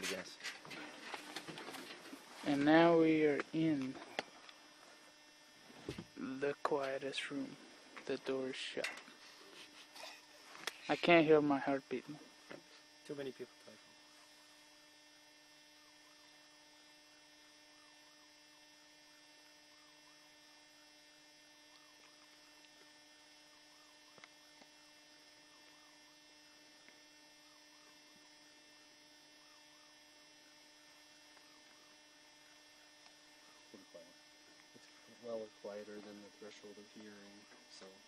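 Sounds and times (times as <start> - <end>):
faint electrical hum: 0.0 - 38.0.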